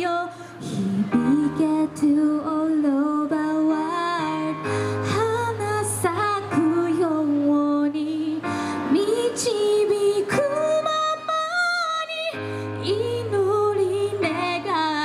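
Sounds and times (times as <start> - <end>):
pop backing music: 0.0 - 15.0
woman singing: 0.0 - 15.0.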